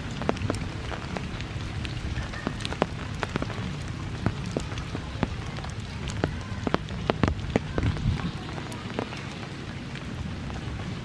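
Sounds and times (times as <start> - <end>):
large drops dripping: 0.0 - 11.0
rain on vegetation: 0.0 - 11.0.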